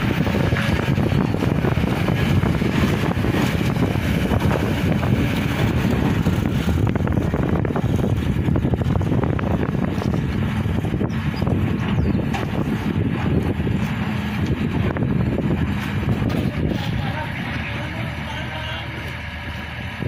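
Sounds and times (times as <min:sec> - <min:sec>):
diesel machinery engine running: 0:00.0 - 0:20.0
wind buffeting microphone: 0:00.0 - 0:20.0.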